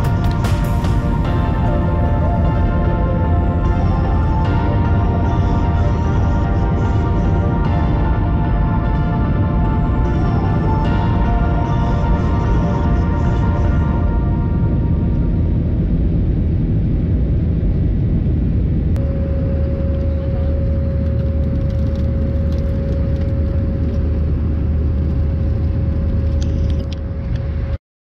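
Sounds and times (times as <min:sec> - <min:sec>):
airliner cabin rumble: 0:00.0 - 0:27.8
steady mid-pitched hum: 0:00.0 - 0:27.8.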